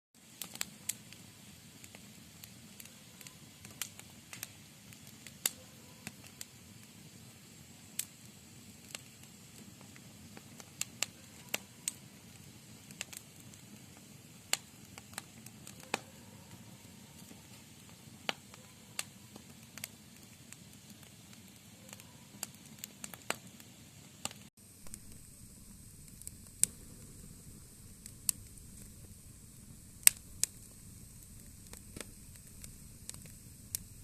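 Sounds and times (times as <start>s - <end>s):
campfire crackling and hissing: 0.2s - 34.0s.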